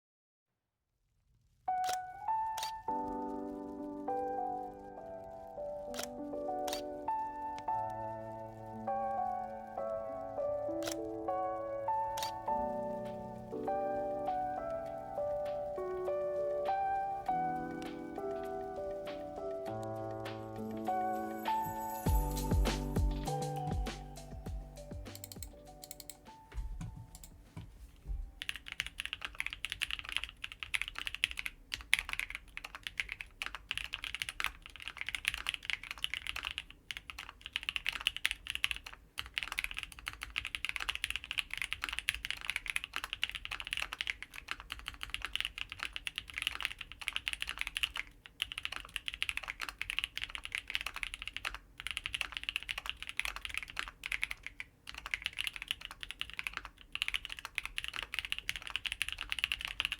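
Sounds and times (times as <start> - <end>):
mechanical keyboard typing: 1.7 - 3.8, 5.8 - 27.4, 28.4 - 59.9.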